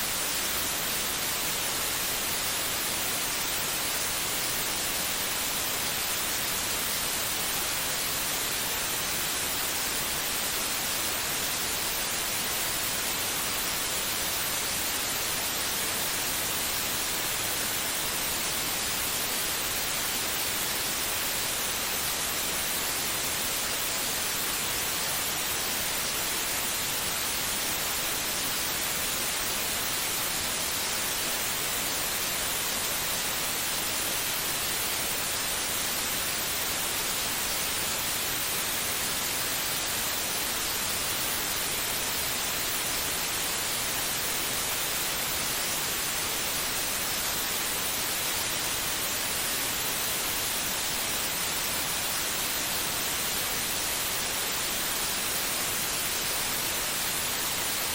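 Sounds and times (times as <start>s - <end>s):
steady white noise: 0.0s - 57.9s.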